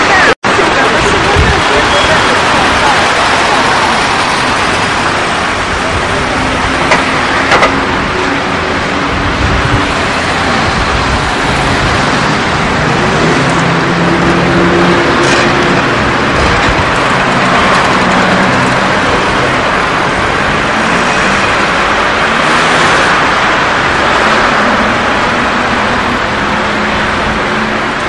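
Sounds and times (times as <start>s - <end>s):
car engine and tyre noise: 0.0s - 28.0s.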